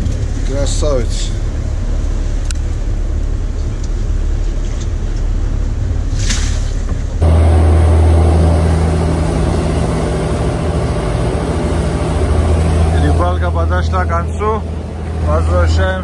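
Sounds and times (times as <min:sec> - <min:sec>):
boat engine rumble: 0:00.0 - 0:16.0
wind: 0:00.0 - 0:16.0.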